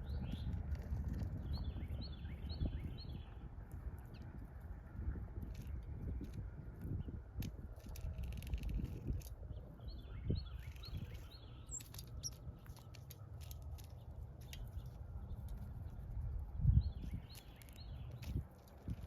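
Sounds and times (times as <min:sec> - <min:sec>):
small birds chirping: 0:00.0 - 0:04.6, 0:07.8 - 0:19.0.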